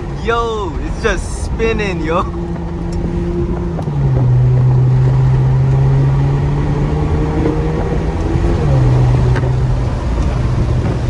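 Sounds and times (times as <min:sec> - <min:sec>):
loud car exhaust under hard pull: 0:01.5 - 0:11.0.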